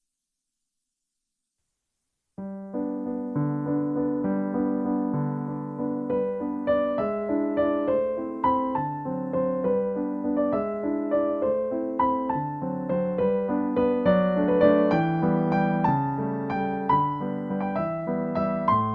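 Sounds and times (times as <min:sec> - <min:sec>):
gentle piano melody: 0:02.4 - 0:18.9.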